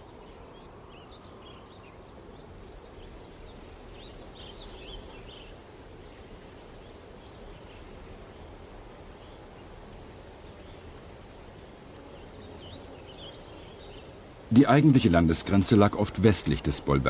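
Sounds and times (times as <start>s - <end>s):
low rushing hiss: 0.0s - 17.0s
small birds chirping: 0.0s - 17.0s.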